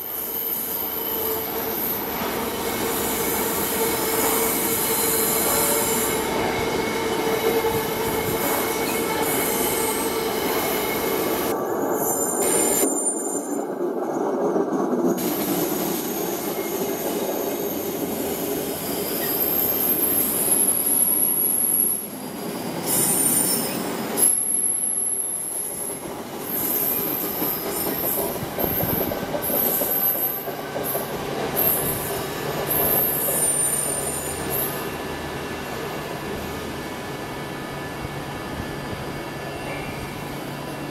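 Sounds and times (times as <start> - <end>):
train wheels rumbling on rails: 0.7 - 24.8, 25.8 - 40.9.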